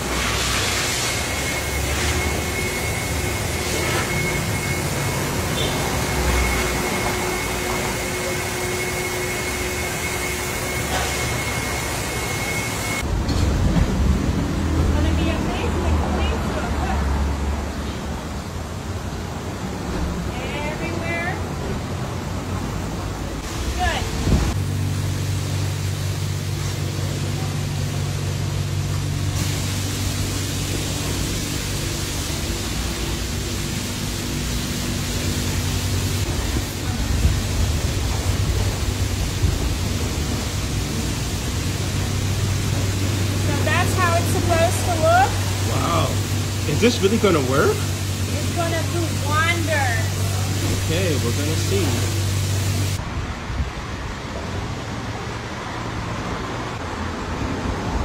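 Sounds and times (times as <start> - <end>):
car wash machinery drone: 0.0 - 58.0.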